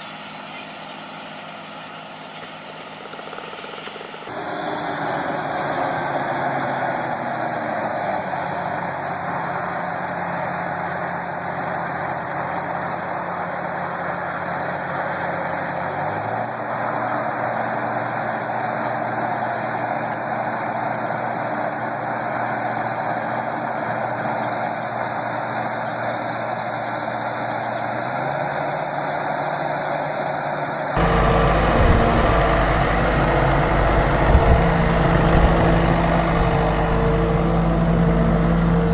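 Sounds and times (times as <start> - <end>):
deep engine sound: 0.0 - 38.9
tractor engine running: 0.0 - 38.9.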